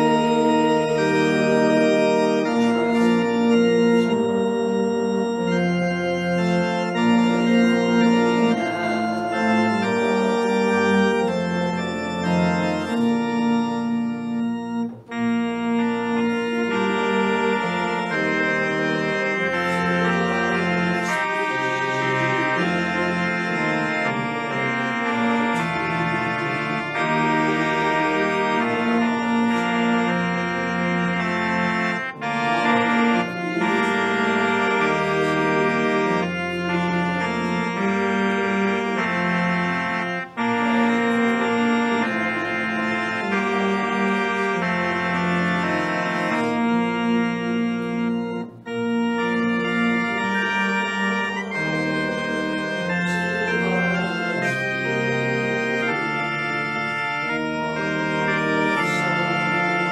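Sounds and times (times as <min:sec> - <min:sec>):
organ playing held chords: 0:00.0 - 0:59.9.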